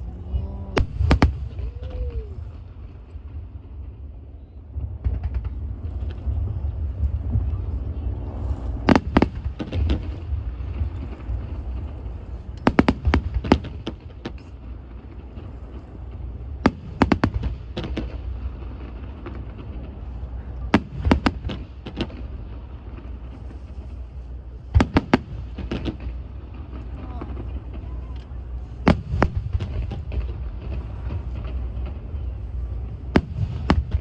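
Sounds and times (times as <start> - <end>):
fireworks cracking: 0.0 - 34.0
low rumble: 0.0 - 34.0.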